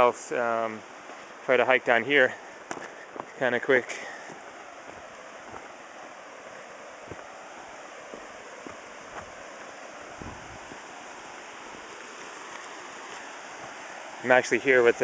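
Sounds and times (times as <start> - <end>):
outdoor air noise hiss: 0.0 - 15.0
footsteps on forest trail: 0.9 - 1.5, 2.2 - 14.3.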